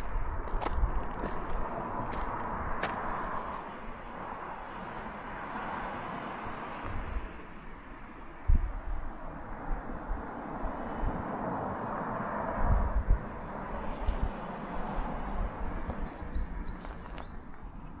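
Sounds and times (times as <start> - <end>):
wind buffeting microphone: 0.0 - 5.4, 6.1 - 18.0
steady rushing noise: 0.0 - 18.0.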